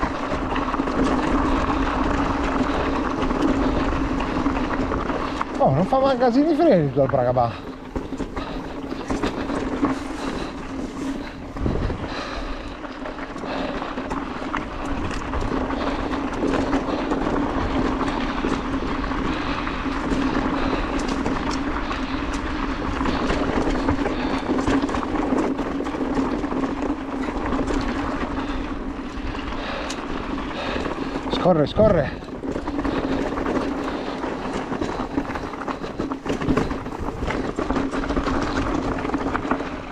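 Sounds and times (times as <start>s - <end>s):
bike tyres rolling on dirt: 0.0s - 39.9s.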